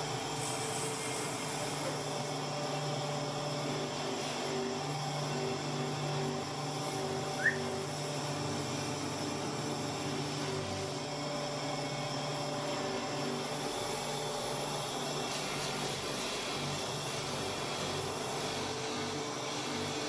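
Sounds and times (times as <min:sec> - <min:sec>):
buffing machine droning: 0:00.0 - 0:20.0.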